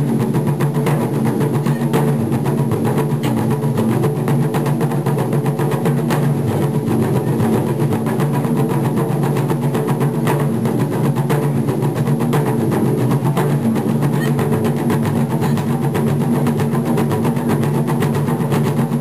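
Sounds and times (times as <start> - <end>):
taiko drums playing: 0.0 - 19.0.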